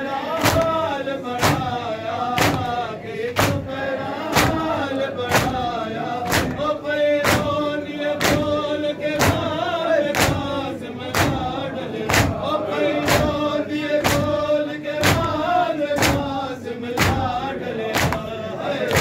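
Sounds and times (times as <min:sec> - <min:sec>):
men chanting a lament: 0:00.0 - 0:19.0
crowd striking chests: 0:00.3 - 0:19.0.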